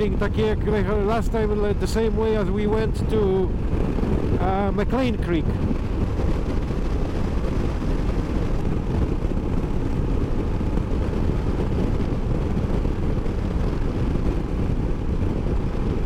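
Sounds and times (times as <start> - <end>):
motorcycle engine drone: 0.0 - 16.0
motorcycle road noise: 0.0 - 16.0
wind rush: 0.0 - 16.0.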